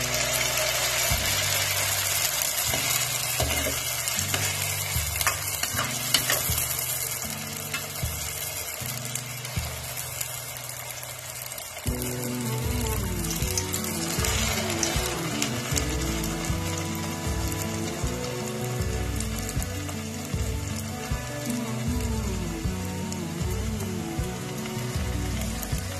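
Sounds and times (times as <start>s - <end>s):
bread sizzling in hot oil: 0.0s - 25.9s.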